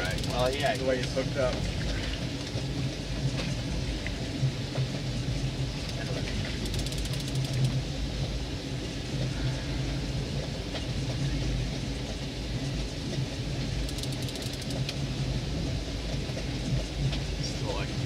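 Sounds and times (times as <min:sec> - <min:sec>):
faint rapid ticking: 0:00.0 - 0:01.7, 0:04.0 - 0:08.0, 0:09.2 - 0:18.0
boat motor humming: 0:00.0 - 0:18.0
water: 0:00.0 - 0:18.0
wind: 0:00.0 - 0:18.0.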